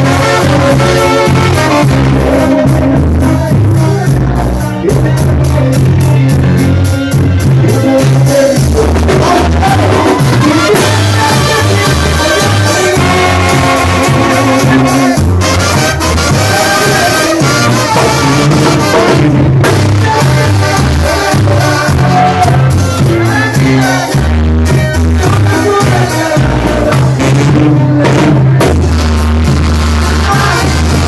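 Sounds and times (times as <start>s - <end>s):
latin band music with trumpets: 0.0s - 31.0s
moving bass line: 0.0s - 31.0s.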